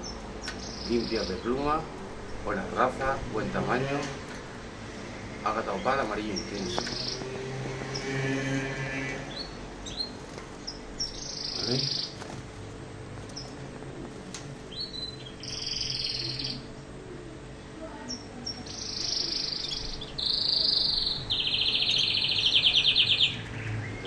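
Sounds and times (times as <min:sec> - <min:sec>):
canaries singing trills: 0:00.0 - 0:24.0.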